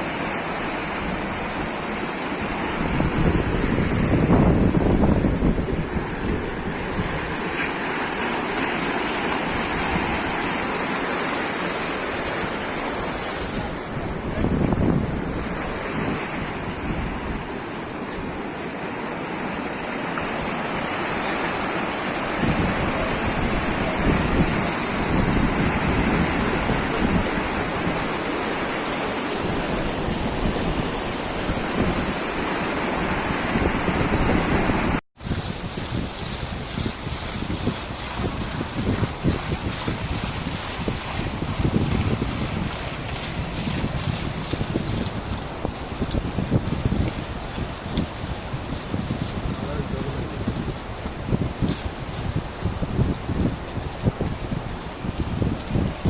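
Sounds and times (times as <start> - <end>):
floodwater rushing: 0.0 - 56.0
wind buffeting microphone: 0.7 - 10.9, 11.7 - 18.7, 20.2 - 56.0.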